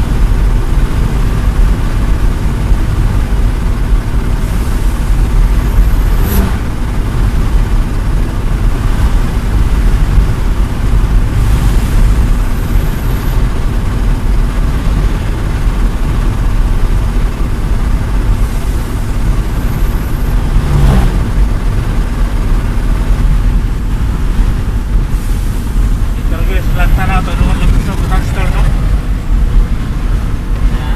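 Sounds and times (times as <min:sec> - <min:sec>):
truck engine running: 0:00.0 - 0:30.9.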